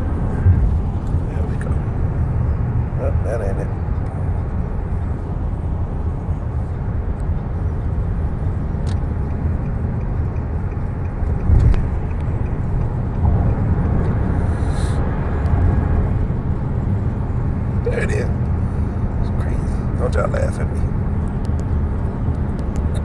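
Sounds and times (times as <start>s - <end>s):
low rumble inside car cabin: 0.0s - 23.0s.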